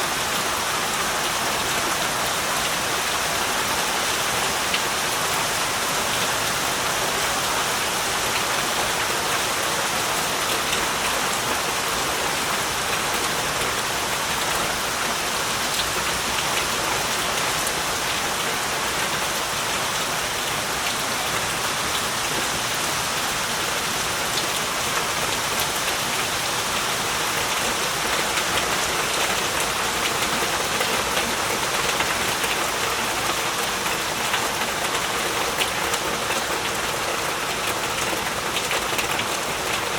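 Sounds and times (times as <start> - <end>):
heavy rain on ground and leaves: 0.0 - 39.9.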